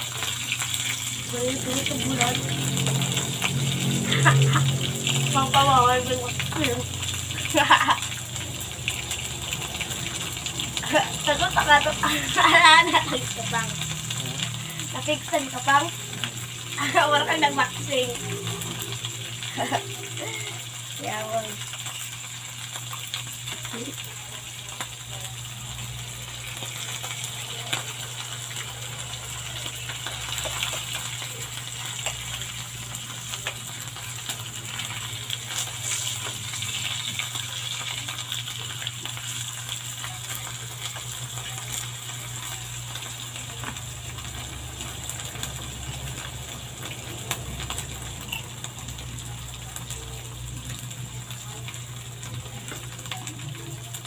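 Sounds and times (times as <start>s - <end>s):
fish sizzling in oil: 0.0s - 54.0s.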